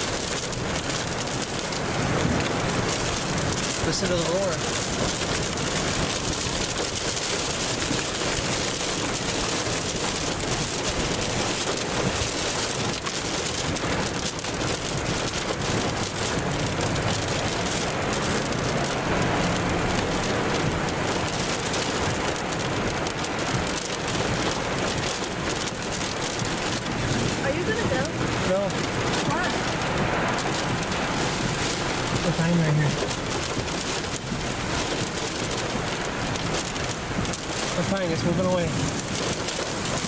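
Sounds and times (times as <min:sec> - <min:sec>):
heavy rain hissing: 0:00.0 - 0:40.0
tornado roaring: 0:00.0 - 0:40.0.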